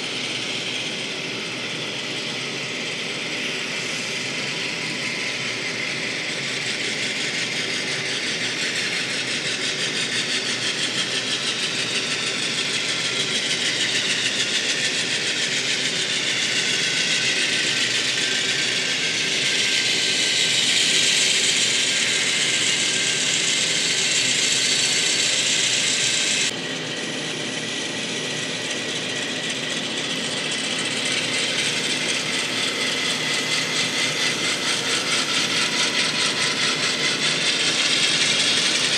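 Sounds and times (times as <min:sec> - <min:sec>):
model train running on track: 0:00.0 - 0:38.9.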